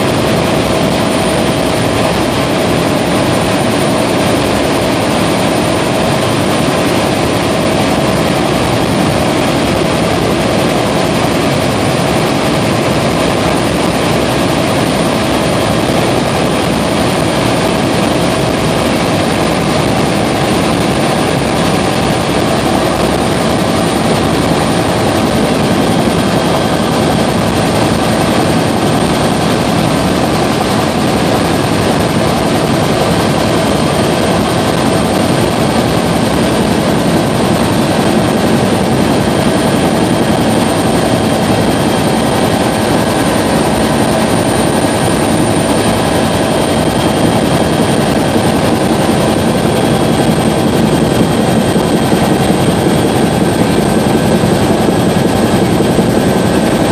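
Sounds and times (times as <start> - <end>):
constant whines: 0.0 - 56.9
helicopter cabin drone: 0.0 - 56.9.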